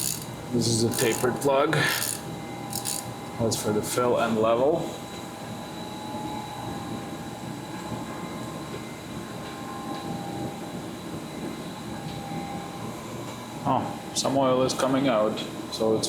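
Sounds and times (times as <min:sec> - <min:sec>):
machine humming and whining: 0:00.0 - 0:14.3.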